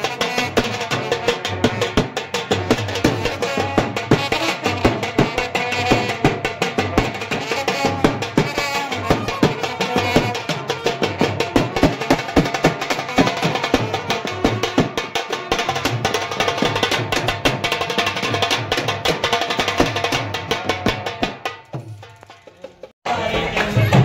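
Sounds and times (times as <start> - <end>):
rapid steady drumming: 0.0 - 24.0.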